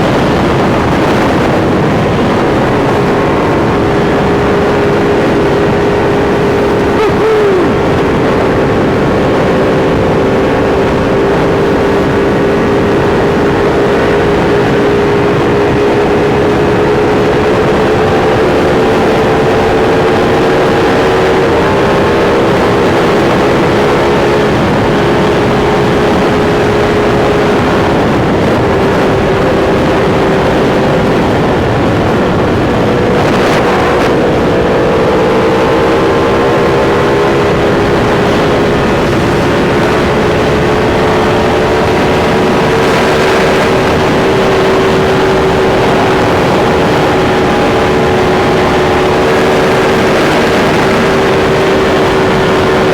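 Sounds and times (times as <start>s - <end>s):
motorcycle engine cruising: 0.0s - 52.9s
wind rush: 0.0s - 52.9s.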